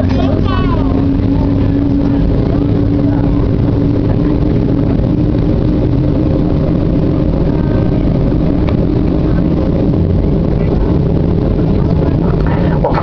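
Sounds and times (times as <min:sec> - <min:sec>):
aircraft cabin engine hum: 0:00.0 - 0:13.0.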